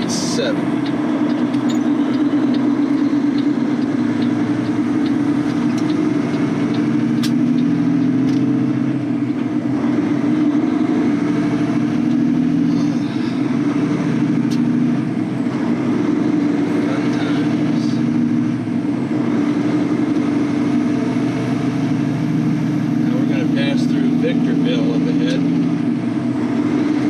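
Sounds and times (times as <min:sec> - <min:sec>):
road noise: 0:00.0 - 0:27.0
truck diesel engine drone: 0:00.0 - 0:27.0.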